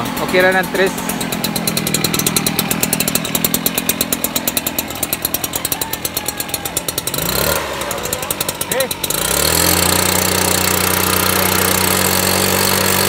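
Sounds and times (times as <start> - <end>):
mist blower engine running: 0.0 - 13.0.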